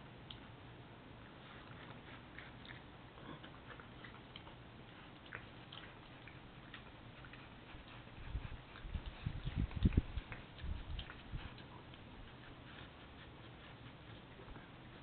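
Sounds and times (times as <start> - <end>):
animals crunching peanuts: 1.2 - 15.0.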